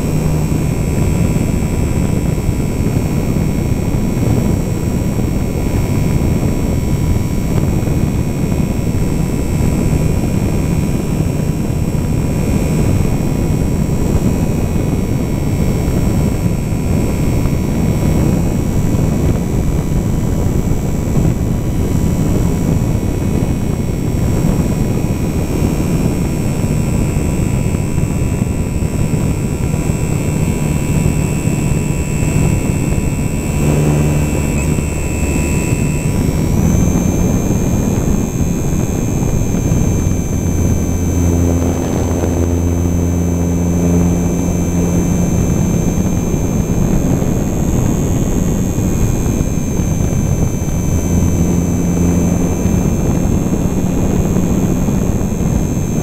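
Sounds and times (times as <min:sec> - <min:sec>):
model plane motor whining: 0:00.0 - 0:56.0
wind rushing on microphone: 0:00.0 - 0:56.0.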